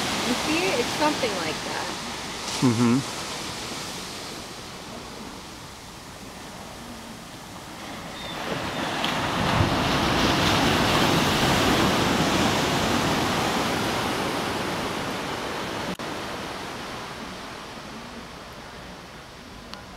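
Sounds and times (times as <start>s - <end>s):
ocean surf breaking on beach: 0.0s - 19.9s.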